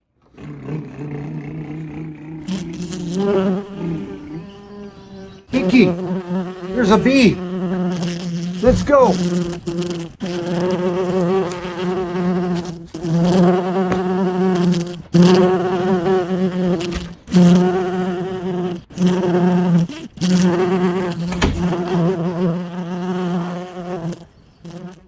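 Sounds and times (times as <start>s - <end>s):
bee buzzing: 0.3s - 25.0s.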